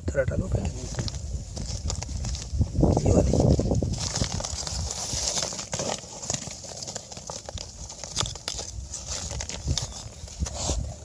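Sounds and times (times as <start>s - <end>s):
stones knocking and scraping: 0.0s - 11.0s.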